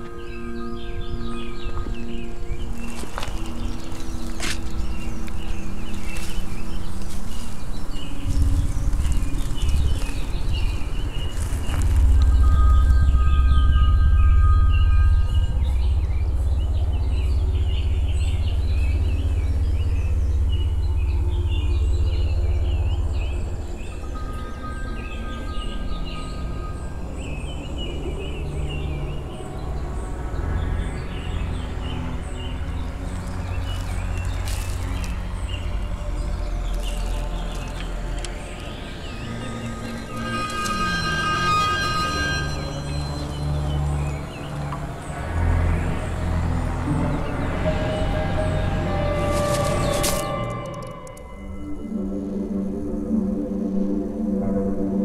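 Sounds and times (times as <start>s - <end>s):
small birds chirping: 0.0s - 52.4s
low rumbling drone: 0.0s - 55.0s.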